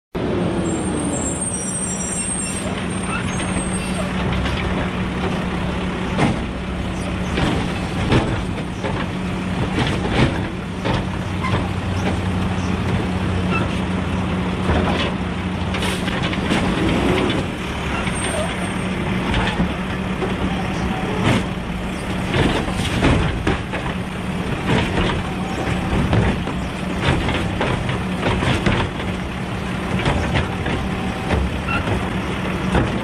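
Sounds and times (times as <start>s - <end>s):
hydraulic arm knocking and clattering: 2.8s - 33.0s.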